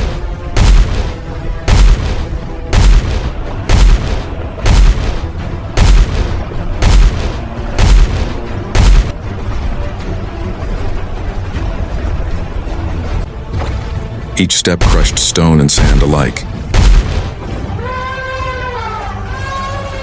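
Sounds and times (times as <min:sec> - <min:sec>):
dramatic music: 0:00.0 - 0:20.0.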